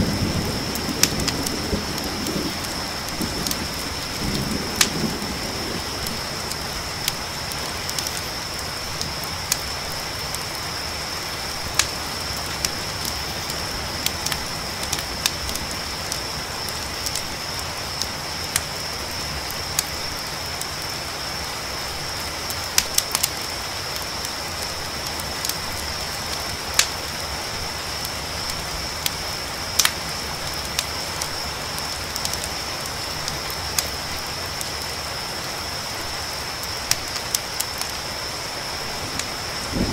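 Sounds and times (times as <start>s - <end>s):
campfire crackling and popping: 0.0s - 39.9s
crickets trilling: 0.0s - 39.9s.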